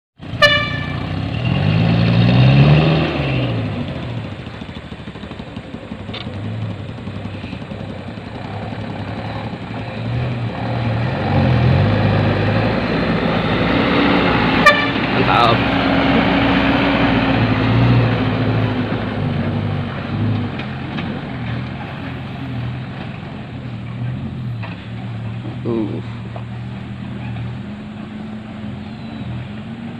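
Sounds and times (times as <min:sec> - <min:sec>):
truck diesel engine revving: 0:00.2 - 0:29.9.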